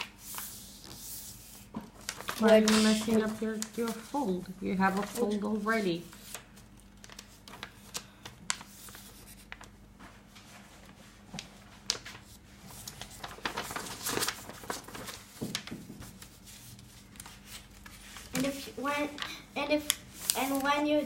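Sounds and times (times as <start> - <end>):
paper being folded and creased: 0.0 - 21.0.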